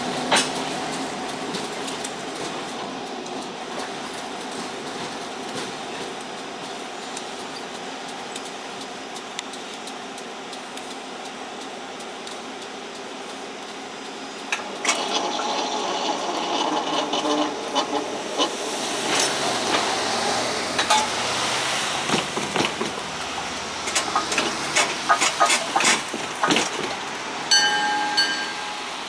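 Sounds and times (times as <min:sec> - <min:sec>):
clicks over rail joints: 0:00.0 - 0:28.4
train wheels rumbling: 0:00.0 - 0:29.0.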